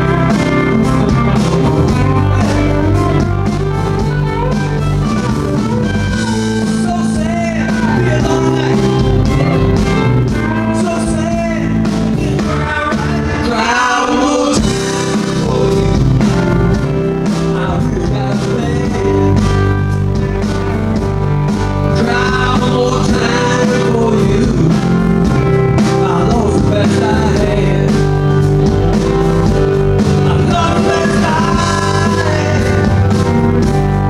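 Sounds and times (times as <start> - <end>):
lead guitar bent notes: 0.0 - 13.5, 14.1 - 34.0
live blues-rock band playing: 0.0 - 34.0.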